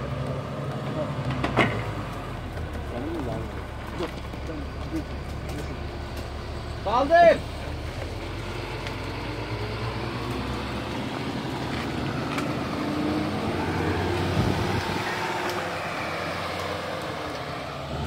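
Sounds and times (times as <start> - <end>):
crane engine running under load: 0.0 - 18.0.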